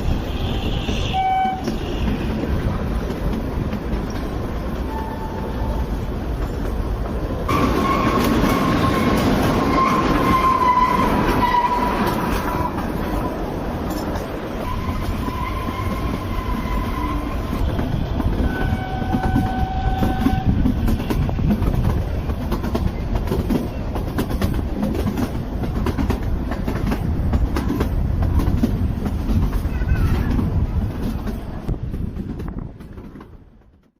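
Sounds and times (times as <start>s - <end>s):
train wheels clickety-clack: 0.0s - 33.9s.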